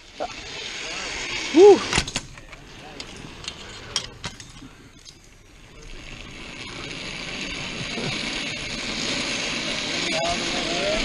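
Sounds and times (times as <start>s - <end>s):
zipline pulleys whirring on cable: 0.0s - 11.0s.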